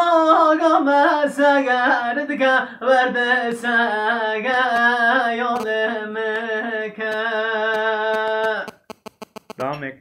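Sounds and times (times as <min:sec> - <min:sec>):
person singing folk song: 0:00.0 - 0:08.7.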